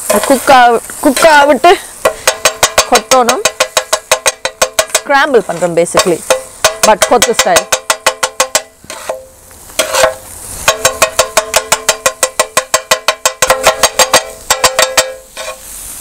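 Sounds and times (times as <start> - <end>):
metal blades clanging on pan: 0.0 - 15.7
frying sizzle: 0.0 - 16.0.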